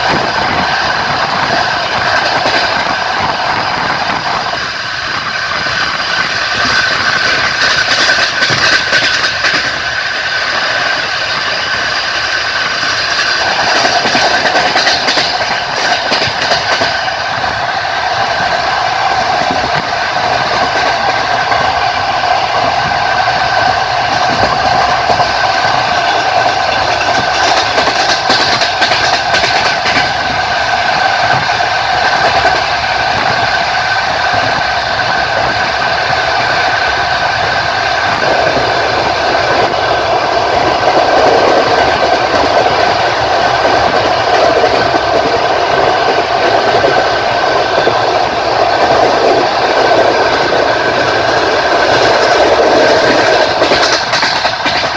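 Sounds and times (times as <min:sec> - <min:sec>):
train rolling rumble: 0:00.0 - 0:54.9
train wheels clicking over rail joints: 0:00.0 - 0:54.9.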